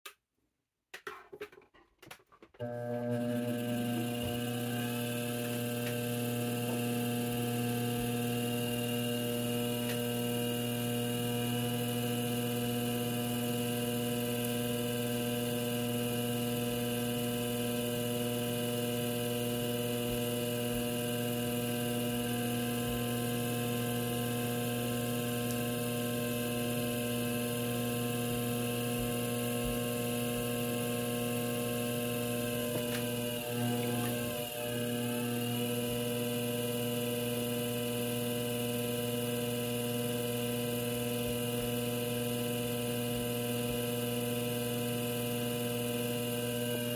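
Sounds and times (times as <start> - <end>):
potter's wheel motor hum: 2.6 - 46.9.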